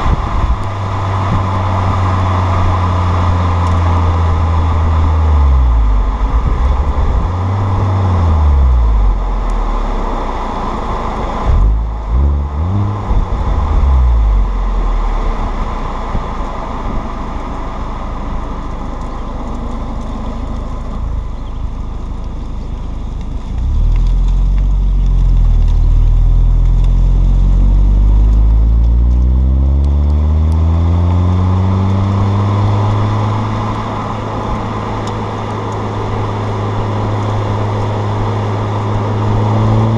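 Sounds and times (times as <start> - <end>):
car engine revving: 0.0 - 21.9, 22.7 - 39.9.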